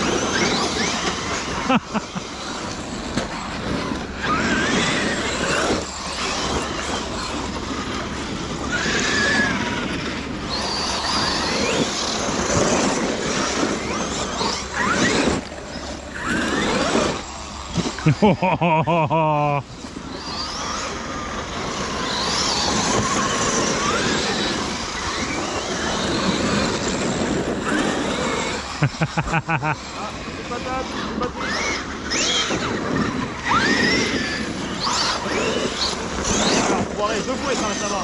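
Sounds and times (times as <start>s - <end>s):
electric motor whine: 0.0s - 38.0s
tyre and driveline rush: 0.0s - 38.0s.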